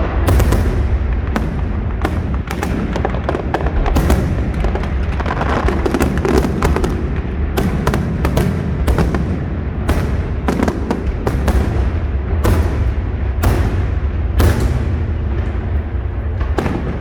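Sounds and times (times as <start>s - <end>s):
firework bangs and crackles: 0.0s - 17.0s
fireworks rumble: 0.0s - 17.0s.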